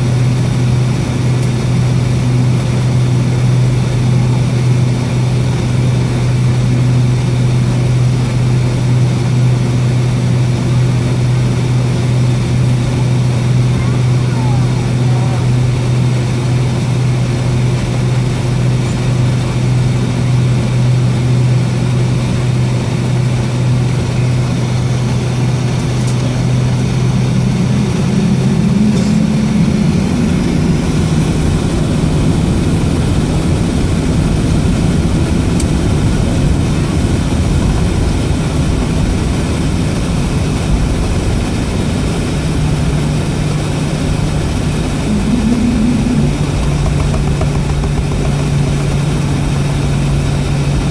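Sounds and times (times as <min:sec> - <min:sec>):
airplane cabin engine hum: 0:00.0 - 0:50.9.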